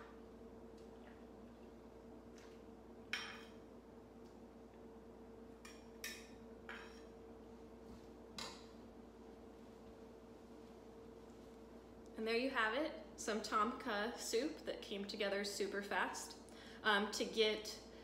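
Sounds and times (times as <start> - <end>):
faint hum: 0.0 - 18.0.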